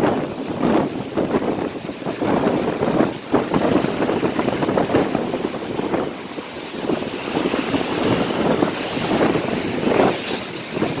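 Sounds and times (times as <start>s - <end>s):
waves breaking against dock: 0.0s - 11.0s
wind buffeting microphone: 0.0s - 11.0s.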